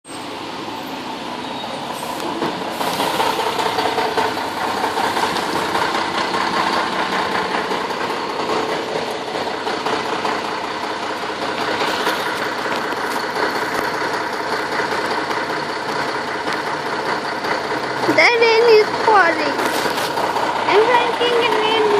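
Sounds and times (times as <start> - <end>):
heavy rain pouring: 0.4 - 21.9.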